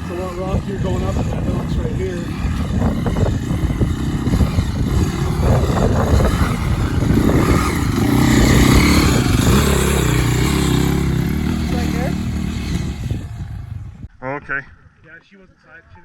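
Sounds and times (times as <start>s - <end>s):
dirt bike engine revving: 0.0s - 14.1s.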